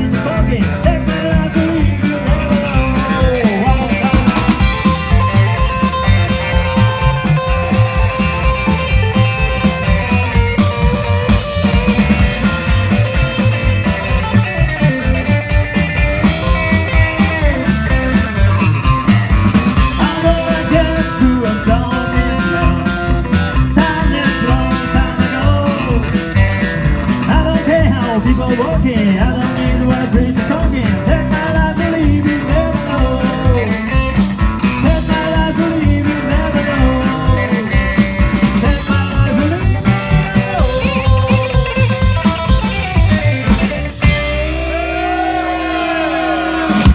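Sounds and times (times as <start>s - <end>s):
rockabilly band playing: 0.0s - 46.9s.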